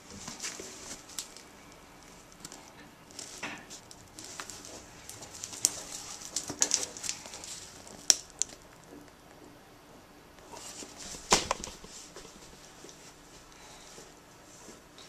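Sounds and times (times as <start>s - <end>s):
rustling: 0.0s - 9.6s, 10.4s - 15.0s.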